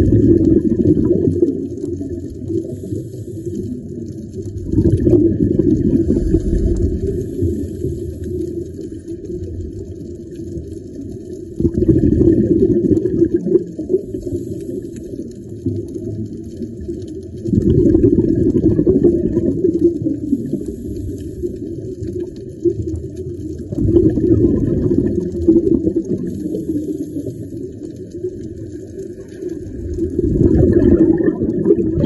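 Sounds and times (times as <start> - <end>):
underwater bubbling: 0.0 - 32.0.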